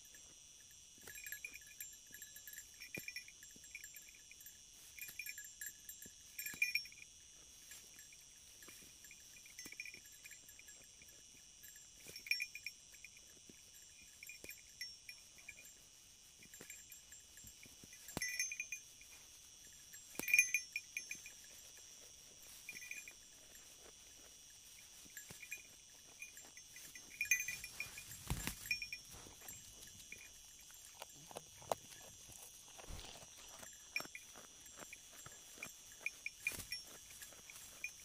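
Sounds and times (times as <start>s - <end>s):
crickets droning: 0.0s - 38.0s
rustle: 0.0s - 38.0s
sheep grazing: 0.0s - 38.0s.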